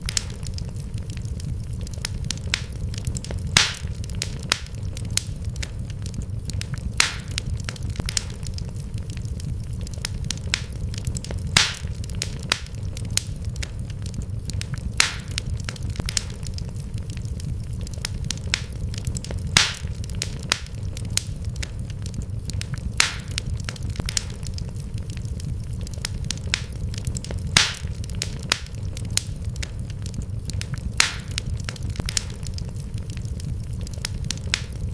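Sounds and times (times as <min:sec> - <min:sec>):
low rumble of burning fire: 0:00.0 - 0:34.9
wood fire crackling: 0:00.0 - 0:34.9.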